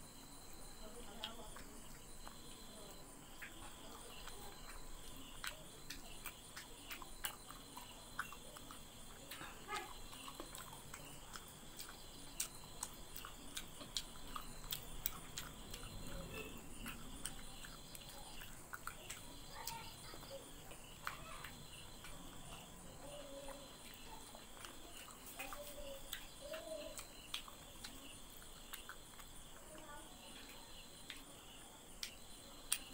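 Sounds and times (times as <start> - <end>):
faint high hum: 0.0 - 32.9
soft chewing: 0.0 - 32.9
fingers mixing rice on a plate: 0.2 - 32.9.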